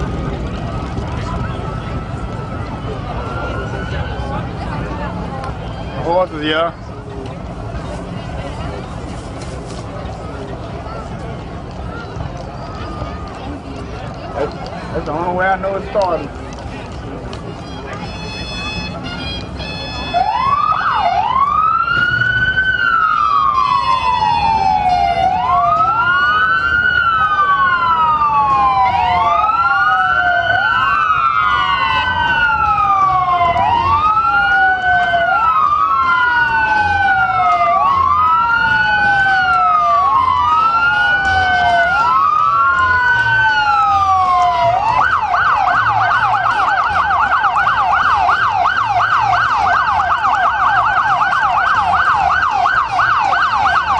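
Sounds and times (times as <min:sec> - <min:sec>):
emergency vehicle sirens wailing: 0:00.0 - 0:53.9.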